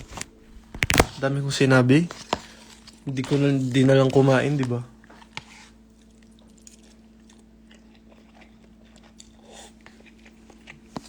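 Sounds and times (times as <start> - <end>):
steady low hum: 0.0 - 11.0
quiet chewing: 2.1 - 11.0.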